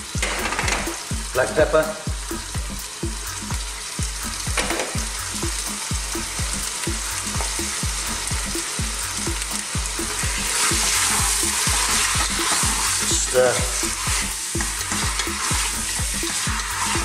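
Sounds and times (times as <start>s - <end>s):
background music with drum beat: 0.0s - 17.0s
meat and onions sizzling in oil: 0.0s - 17.0s.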